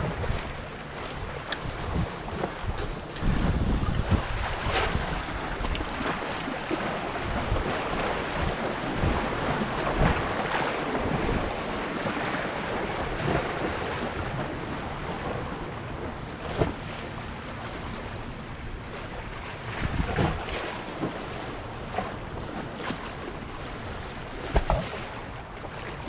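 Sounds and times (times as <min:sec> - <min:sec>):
wind buffeting microphone: 0:00.0 - 0:25.5
waves washing: 0:00.0 - 0:26.0.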